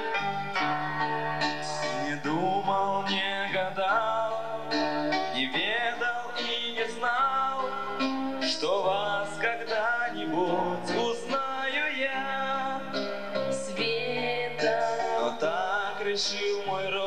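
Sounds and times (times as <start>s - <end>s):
instrumental accompaniment: 0.0s - 17.0s
man and woman singing: 1.0s - 7.7s, 8.4s - 17.0s.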